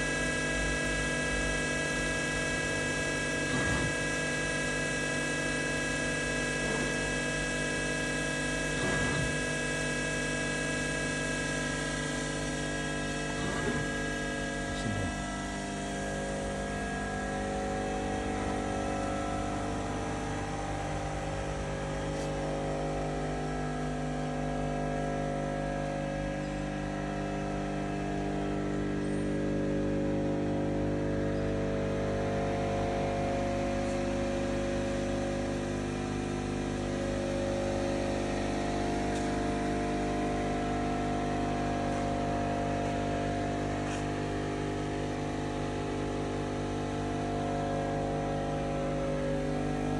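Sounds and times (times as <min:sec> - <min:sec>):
machine hum: 0:00.0 - 0:49.9.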